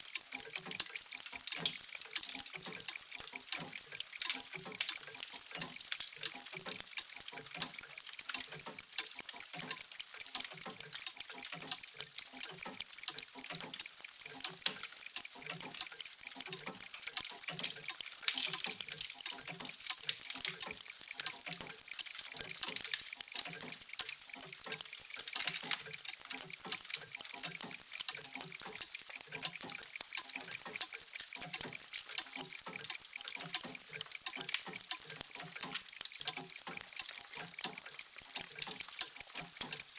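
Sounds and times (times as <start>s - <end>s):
mechanical clocks ticking: 0.0s - 39.9s.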